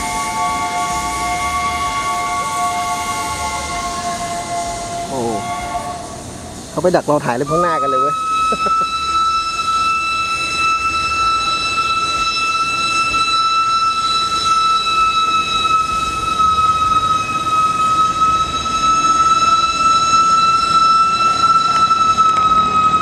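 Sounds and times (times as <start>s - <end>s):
steam locomotive whistle: 0.0s - 23.0s
train rumbling: 0.0s - 23.0s.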